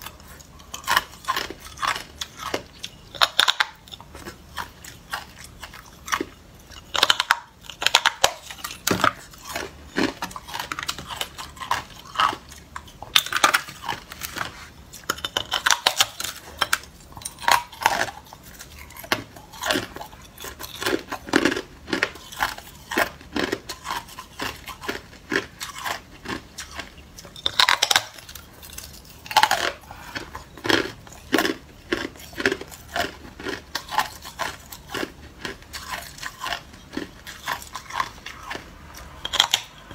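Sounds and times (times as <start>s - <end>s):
ice being chewed and crunched: 0.0s - 39.9s.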